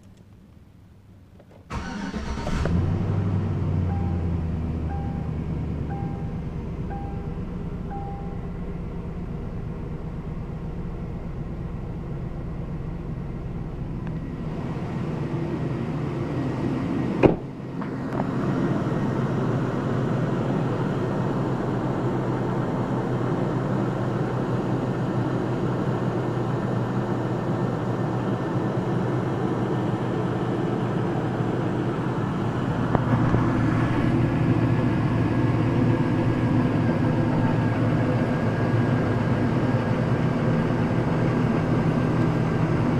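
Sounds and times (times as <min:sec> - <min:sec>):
engine running: 0:01.7 - 0:42.9.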